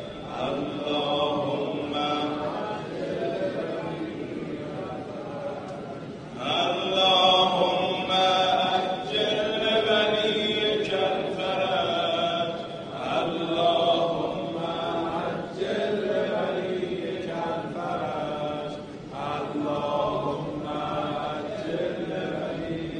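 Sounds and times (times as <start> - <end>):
religious chanting: 0.0 - 22.9.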